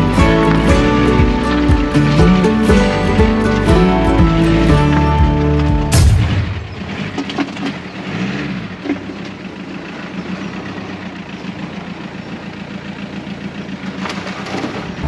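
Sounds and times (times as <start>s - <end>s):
van engine low drone: 0.0s - 15.0s.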